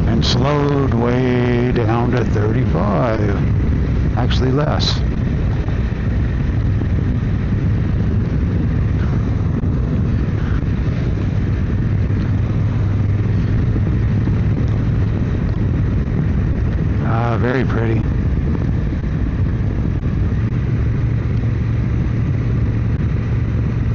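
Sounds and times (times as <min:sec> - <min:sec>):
motorcycle engine cruising: 0:00.0 - 0:23.9
wind and road rush: 0:00.0 - 0:23.9.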